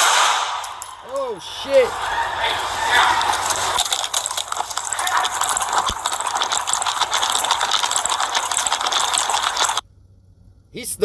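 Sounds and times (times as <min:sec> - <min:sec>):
running footfalls: 0:00.0 - 0:09.8
gear and clothing rattling: 0:00.5 - 0:09.8.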